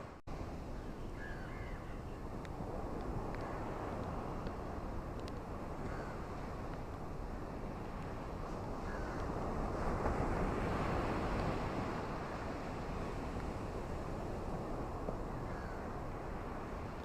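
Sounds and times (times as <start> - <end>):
ocean surf washing on shore: 0.0 - 17.0.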